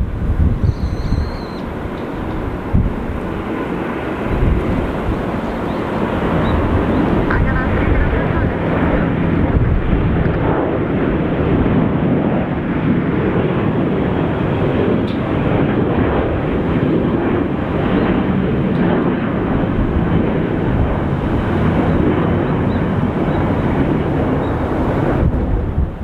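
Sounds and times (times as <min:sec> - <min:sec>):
jet engines roaring on takeoff: 0:00.0 - 0:26.0.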